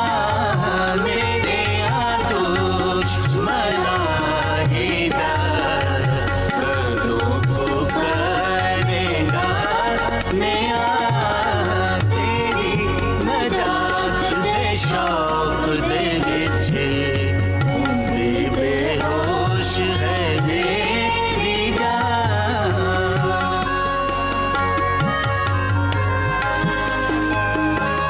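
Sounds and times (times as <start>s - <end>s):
ornamented sliding lead melody: 0.0s - 28.0s.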